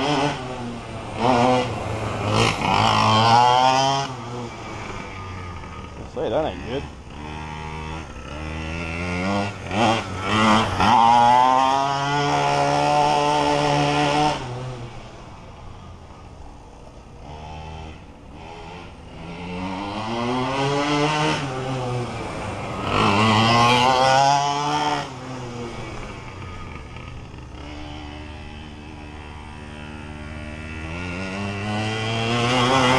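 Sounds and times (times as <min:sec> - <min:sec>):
two-stroke engine revving: 0:00.0 - 0:15.3, 0:17.2 - 0:32.9.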